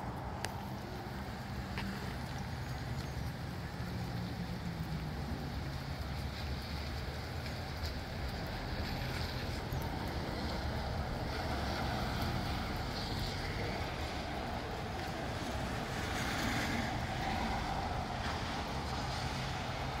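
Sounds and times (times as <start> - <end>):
wind and rain: 0.0 - 20.0.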